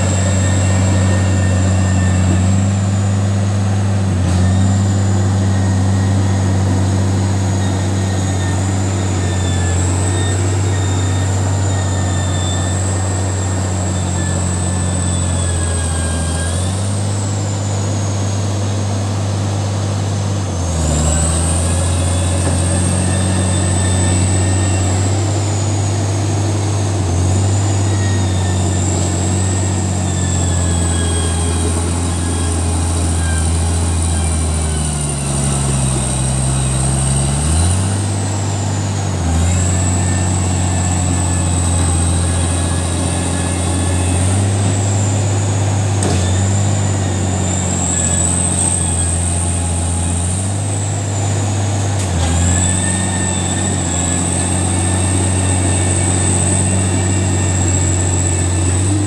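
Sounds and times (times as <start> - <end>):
bulldozer diesel engine: 0.0 - 59.0
high whine: 0.0 - 59.0.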